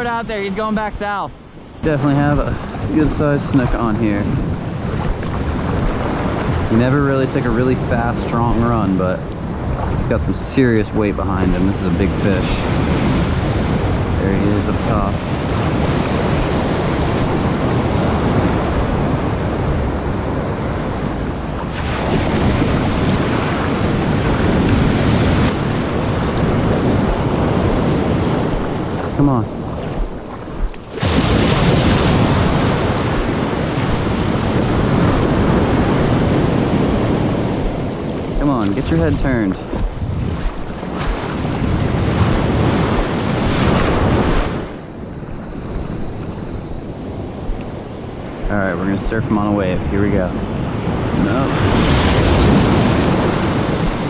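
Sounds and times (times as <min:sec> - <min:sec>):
ocean surf washing: 0:00.0 - 0:54.0
wind buffeting microphone: 0:00.0 - 0:54.0.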